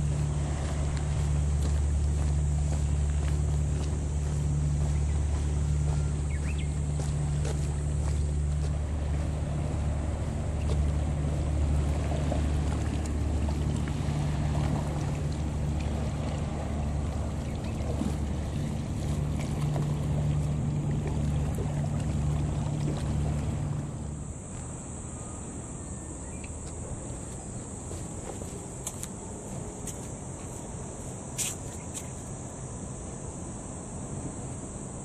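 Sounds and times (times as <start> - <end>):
thin high whine: 0.0 - 20.3, 23.2 - 35.0
water noise: 0.0 - 35.0
wind: 0.0 - 35.0.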